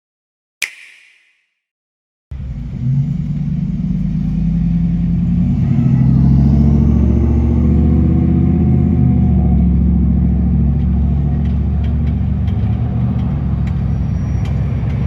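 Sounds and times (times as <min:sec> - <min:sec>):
fire engine running: 0:02.3 - 0:15.0.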